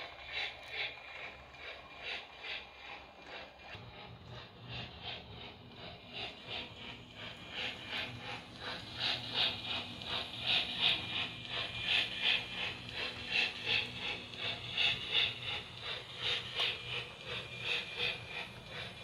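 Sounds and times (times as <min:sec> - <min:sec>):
model train chuffing: 0:00.0 - 0:19.0.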